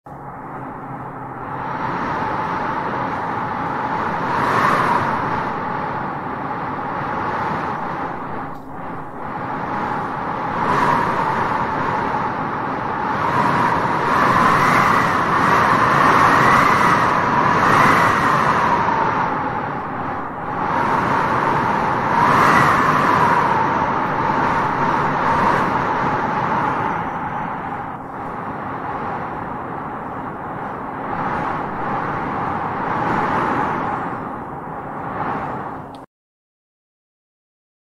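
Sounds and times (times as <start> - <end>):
wind blowing in gusts: 0.1 - 36.1.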